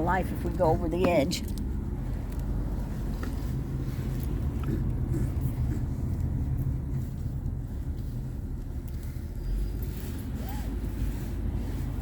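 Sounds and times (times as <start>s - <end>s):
vehicle engine and tyres rumble: 0.0s - 12.0s.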